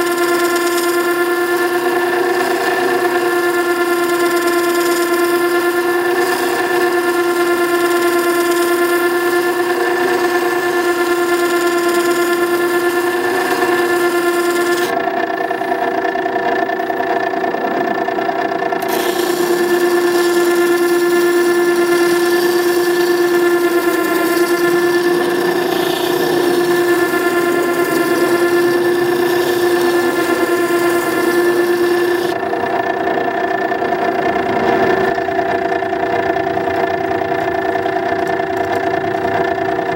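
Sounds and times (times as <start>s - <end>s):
chisel grinding on wheel: 0.0s - 17.9s, 18.6s - 32.9s
sharpener humming: 0.0s - 18.0s, 18.6s - 33.0s.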